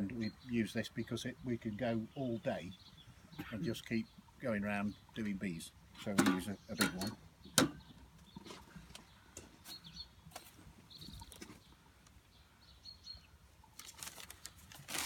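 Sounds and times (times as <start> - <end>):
faint bird chirps: 0.0 - 13.9.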